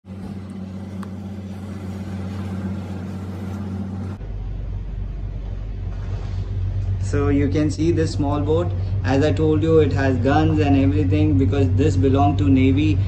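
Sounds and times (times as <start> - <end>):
boat engine hum: 0.0 - 13.0
deeper hum: 0.0 - 13.0
wind: 0.0 - 13.0.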